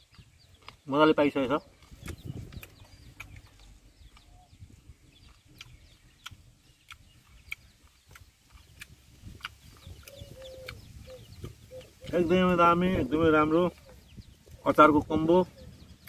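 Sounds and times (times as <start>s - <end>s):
high chirps and clicks: 0.0s - 16.0s
hen clucking: 0.1s - 16.0s.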